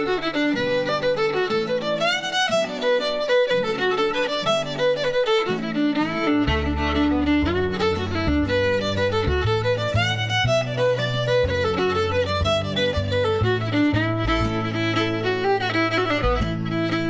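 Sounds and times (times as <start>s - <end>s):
instrumental melody with bass: 0.0s - 17.0s.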